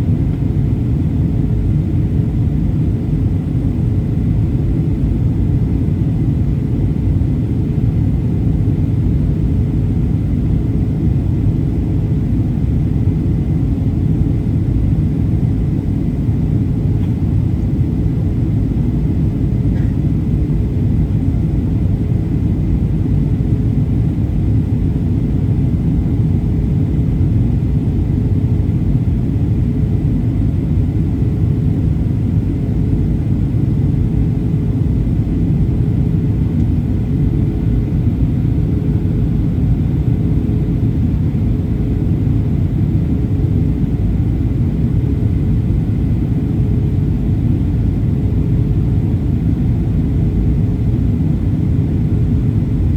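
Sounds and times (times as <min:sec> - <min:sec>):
aircraft engine rumble: 0:00.0 - 0:52.9
faint steady hum: 0:00.0 - 0:52.9.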